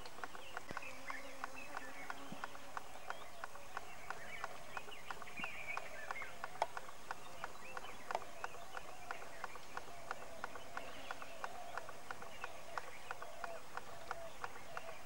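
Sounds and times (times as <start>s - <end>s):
animal rhythmic clicking call: 0.0s - 15.0s.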